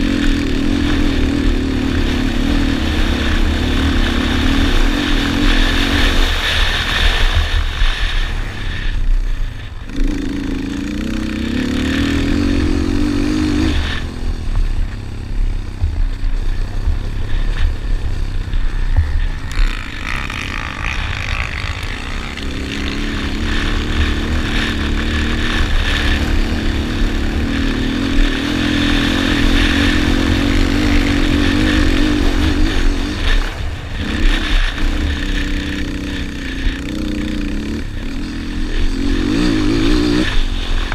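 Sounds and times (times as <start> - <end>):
quad engine revving: 0.0 - 40.9
wind rumble on microphone: 0.0 - 40.9.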